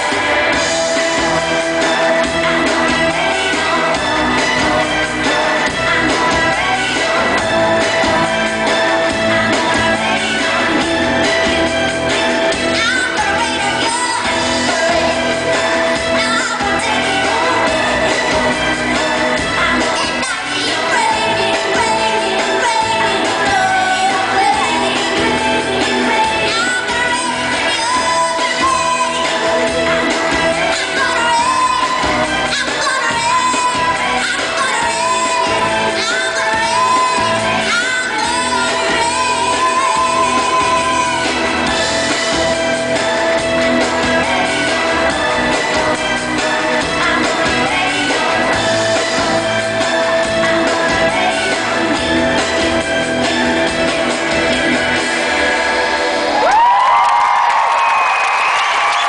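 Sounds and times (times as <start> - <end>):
woman singing: 0.0 - 43.2, 43.8 - 53.4
live pop band playing: 0.0 - 59.0.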